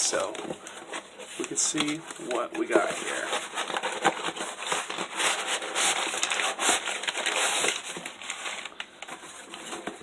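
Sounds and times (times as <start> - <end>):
packing material rustling: 0.0 - 10.0.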